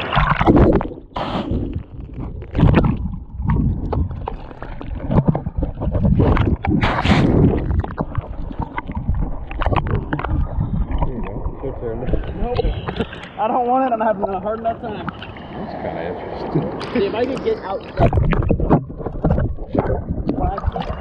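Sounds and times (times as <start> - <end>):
surf sloshing and splashing: 0.0 - 21.0
underwater rushing and gurgling: 0.0 - 21.0.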